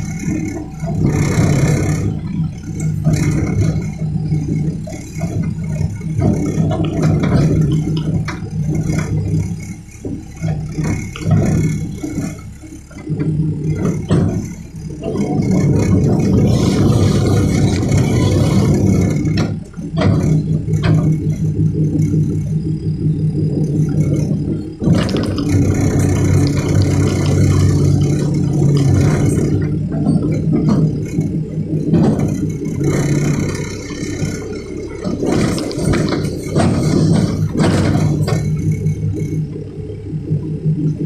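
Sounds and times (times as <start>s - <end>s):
clatter and knocks: 0.0s - 22.8s, 23.4s - 41.0s
excavator diesel engine working: 0.0s - 41.0s.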